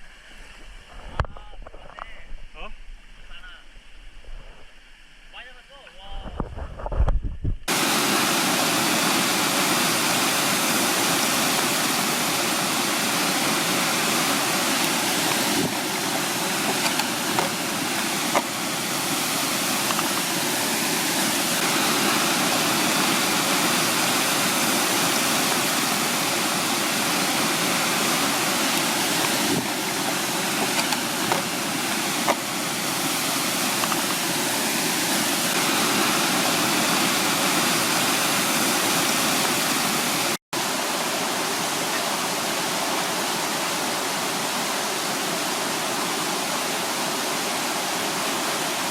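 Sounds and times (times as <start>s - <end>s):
mountain stream rushing: 7.7s - 48.9s.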